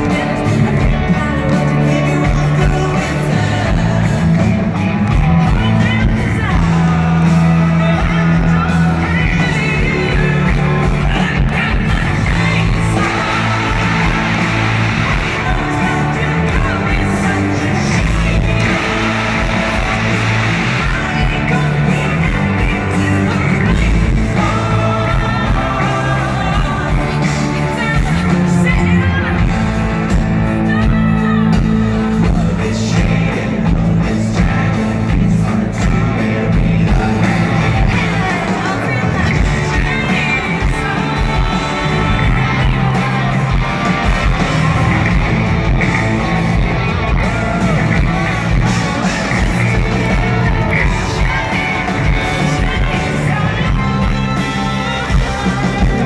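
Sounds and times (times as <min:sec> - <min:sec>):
country-rock band playing live: 0:00.0 - 0:56.0
person singing: 0:00.0 - 0:56.0.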